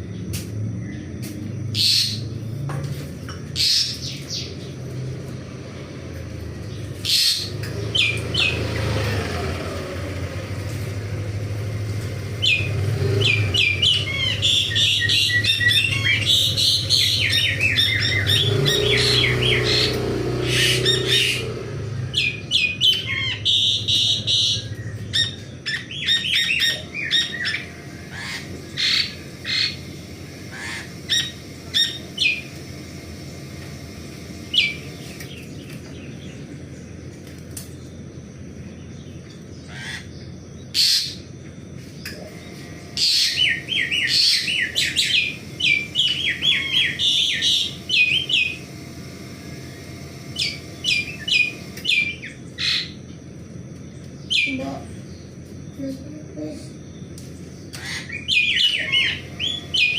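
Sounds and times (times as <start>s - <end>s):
starling chirping: 0.0s - 2.6s, 3.3s - 59.9s.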